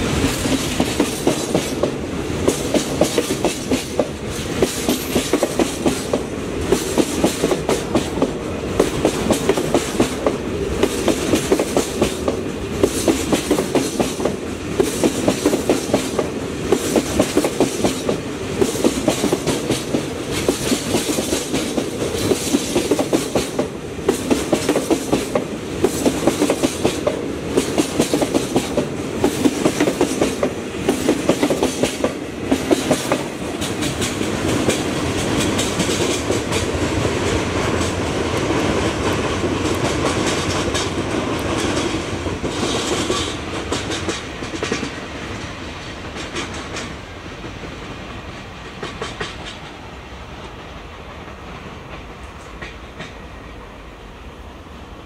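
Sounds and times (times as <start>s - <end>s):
freight train wheels clattering: 0.0s - 53.5s
train rumble: 0.0s - 55.0s.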